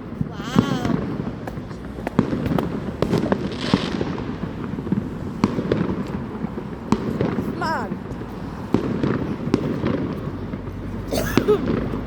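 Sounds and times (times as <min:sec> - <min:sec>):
distant fireworks cracks and bangs: 0:00.0 - 0:12.0.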